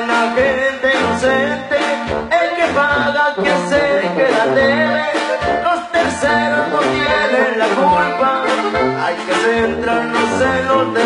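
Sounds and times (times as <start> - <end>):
band music: 0.0 - 11.0
drum kit beat: 0.0 - 11.0.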